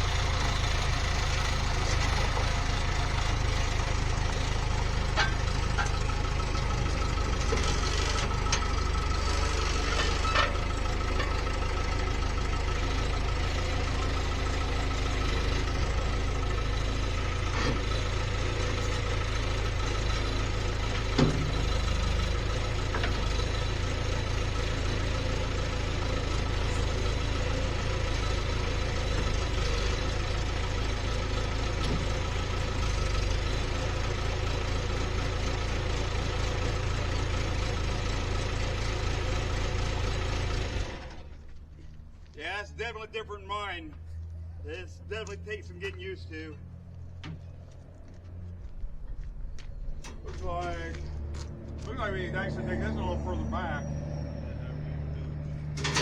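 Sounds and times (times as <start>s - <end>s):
skid steer engine running: 0.0s - 56.0s.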